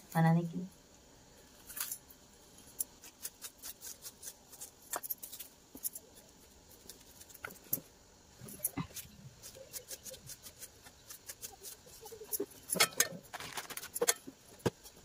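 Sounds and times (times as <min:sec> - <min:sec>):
onion skin crackling under knife: 0:01.6 - 0:15.0.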